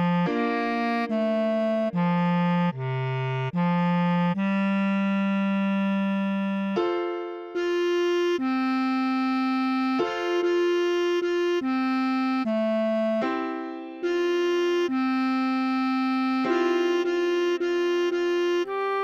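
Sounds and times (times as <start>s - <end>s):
bass clarinet melody: 0.0s - 19.0s.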